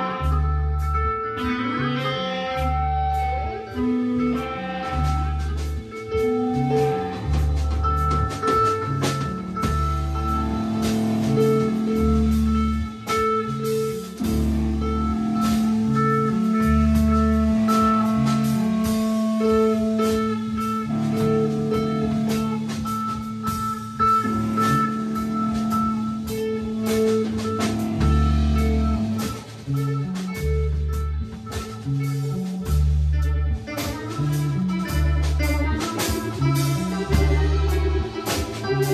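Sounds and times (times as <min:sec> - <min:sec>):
bass: 0:00.0 - 0:38.9
drum kit: 0:00.0 - 0:38.9
electric guitar: 0:00.0 - 0:38.9.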